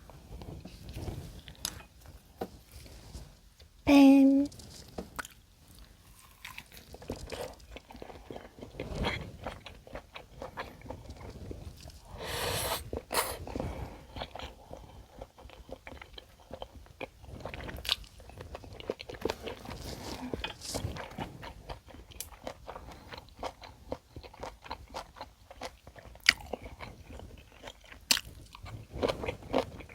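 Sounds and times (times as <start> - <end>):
person chewing and crunching food: 4.8 - 29.9.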